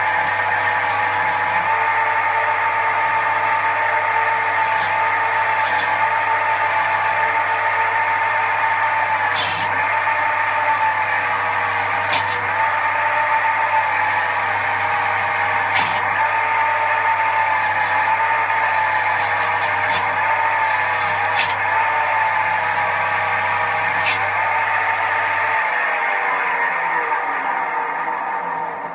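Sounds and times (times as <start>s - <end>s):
turning tool scraping wood: 0.0s - 25.7s
wood lathe whining: 0.0s - 28.9s.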